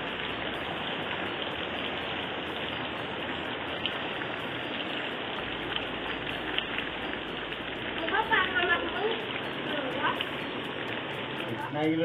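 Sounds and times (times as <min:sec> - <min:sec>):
heavy rain on dirt road: 0:00.0 - 0:12.0.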